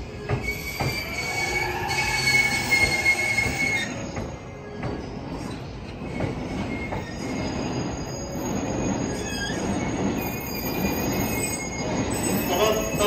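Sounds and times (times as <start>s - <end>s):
train wheels squealing: 0.0s - 13.0s
wheels rumbling on rails: 0.0s - 13.0s.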